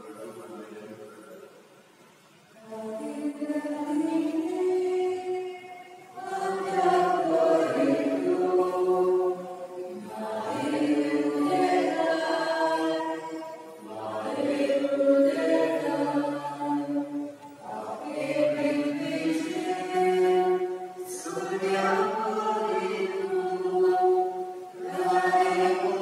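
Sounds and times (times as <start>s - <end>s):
voices singing a slow hymn: 2.2s - 26.0s.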